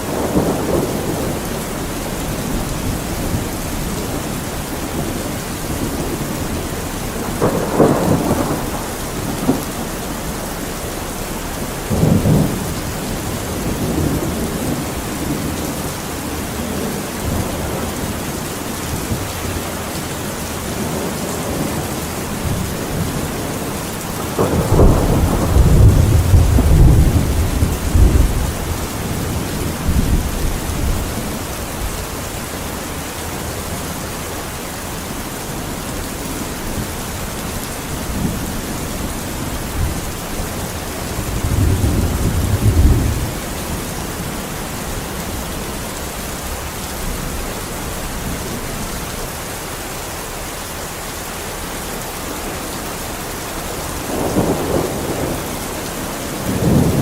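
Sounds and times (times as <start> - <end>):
thunder rumbling: 0.0 - 49.4, 52.2 - 57.0
steady rain: 0.0 - 57.0.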